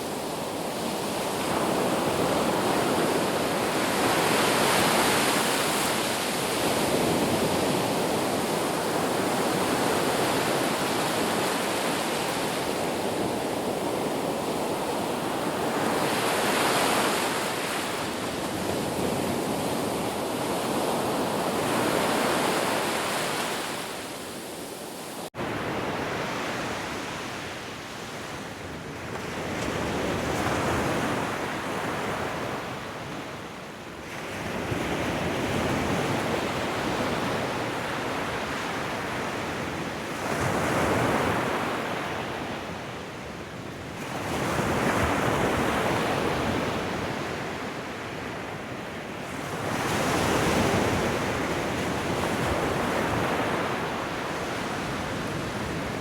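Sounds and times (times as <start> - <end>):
ocean waves: 0.0 - 56.0.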